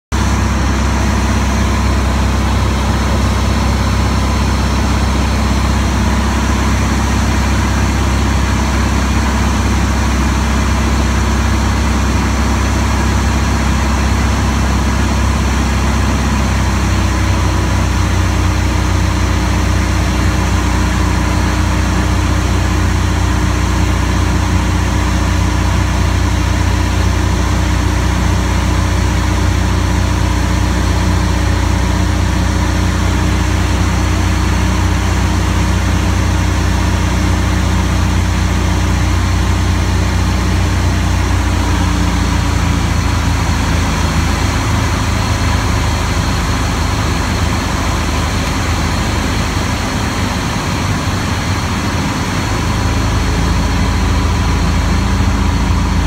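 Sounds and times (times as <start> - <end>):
aircraft engine and propeller droning: 0.1 - 56.0.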